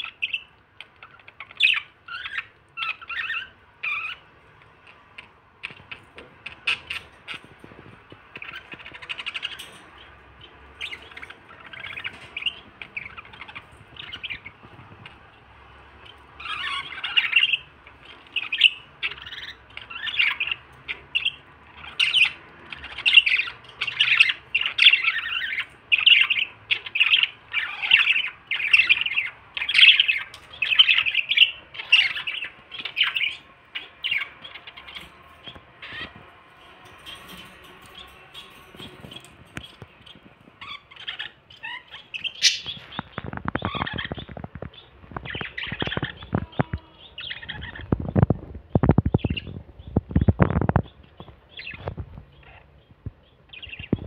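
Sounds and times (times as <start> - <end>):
budgerigars squawking and chirping: 0.0 - 54.0.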